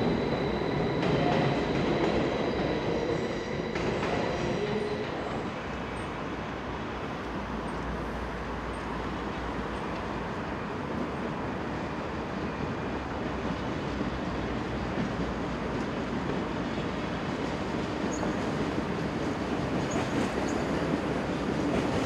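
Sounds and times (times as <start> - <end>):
train wheels rumbling on rails: 0.0 - 8.0, 8.6 - 22.0.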